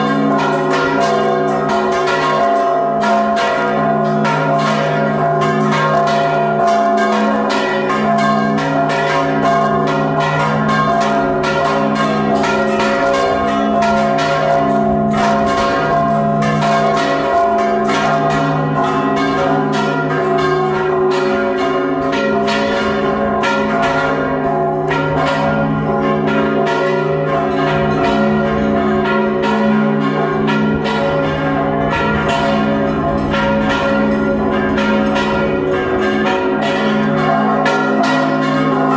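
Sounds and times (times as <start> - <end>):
church bells ringing: 0.0 - 38.9
large bell low tones: 0.0 - 38.9.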